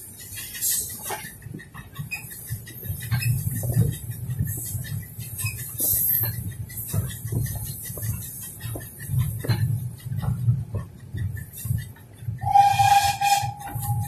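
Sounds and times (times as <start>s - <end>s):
rattles and squeaks of van fittings: 0.0s - 12.5s
wheels rumbling on track: 0.0s - 14.0s.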